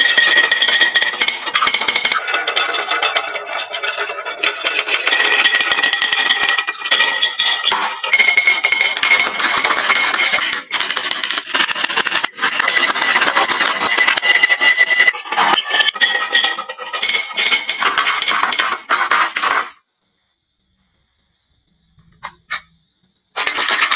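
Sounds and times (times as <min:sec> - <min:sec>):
marbles clattering down wooden run: 0:00.0 - 0:19.8, 0:23.4 - 0:23.9.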